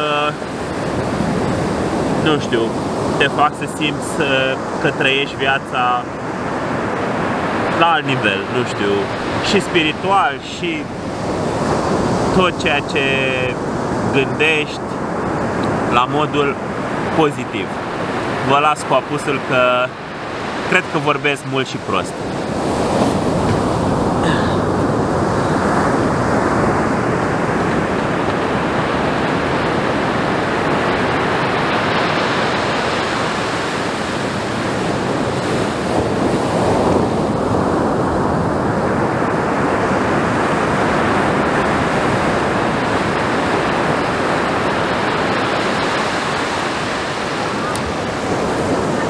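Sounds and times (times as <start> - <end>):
waves breaking on beach: 0.0 - 49.0.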